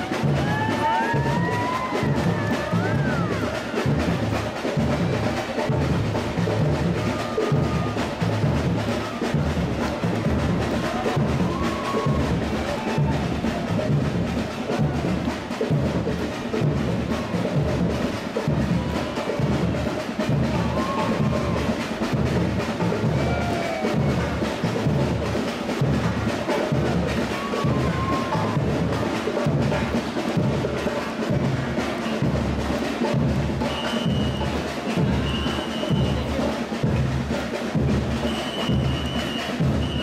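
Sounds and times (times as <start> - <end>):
samba percussion band: 0.0 - 40.0.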